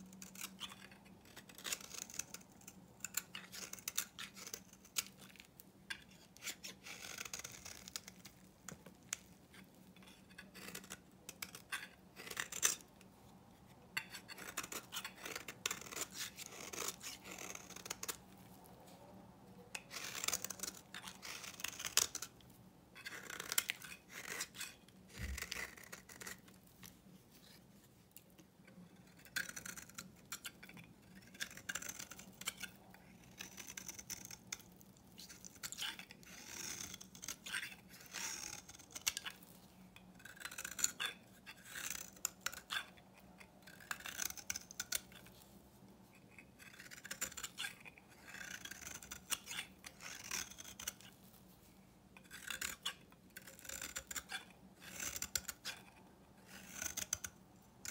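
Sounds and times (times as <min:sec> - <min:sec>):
knife blade scraping soap: 0:00.0 - 0:18.5, 0:19.7 - 0:27.6, 0:28.2 - 0:45.4, 0:46.1 - 0:51.4, 0:52.2 - 0:57.9.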